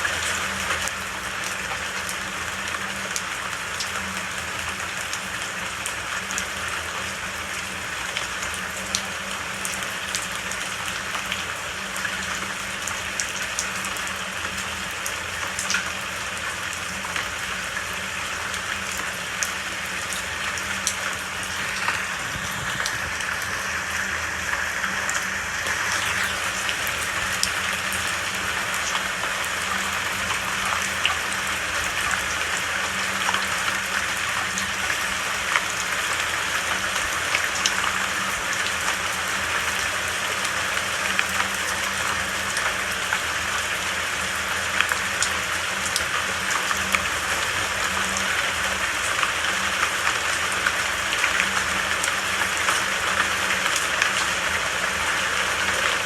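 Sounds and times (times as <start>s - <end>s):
raindrops spattering on a surface: 0.0s - 56.0s
steady rain falling: 0.0s - 56.0s.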